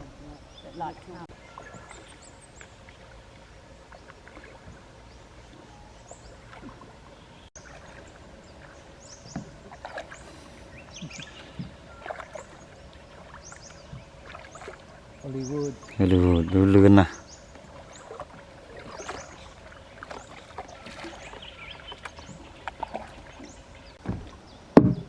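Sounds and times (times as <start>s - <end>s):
paddles splashing in water: 0.0s - 25.0s.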